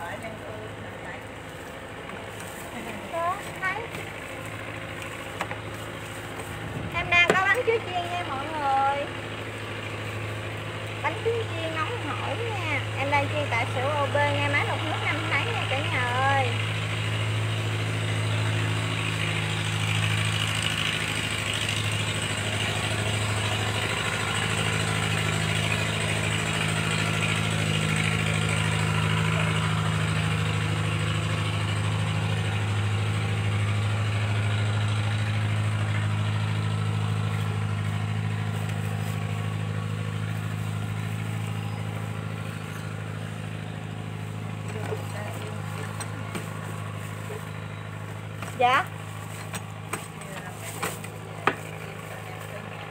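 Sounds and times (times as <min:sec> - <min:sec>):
low motor hum: 0:00.0 - 0:52.9.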